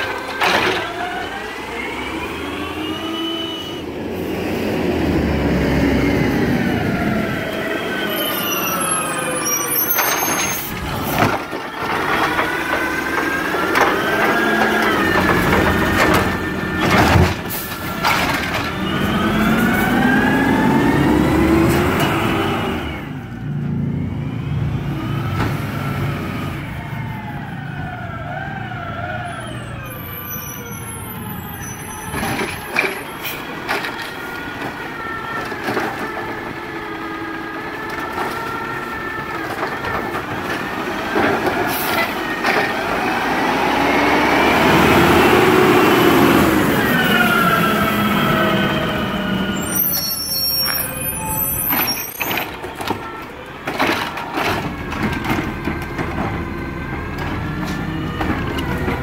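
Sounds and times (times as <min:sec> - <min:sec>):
garbage truck hydraulic whine: 0:00.0 - 0:23.2, 0:28.9 - 0:59.0.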